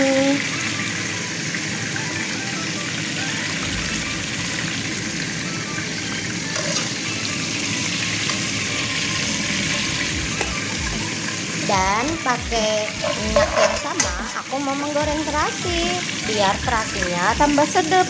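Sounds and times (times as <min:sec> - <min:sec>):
hot oil sizzling in frying pan: 0:00.0 - 0:18.0.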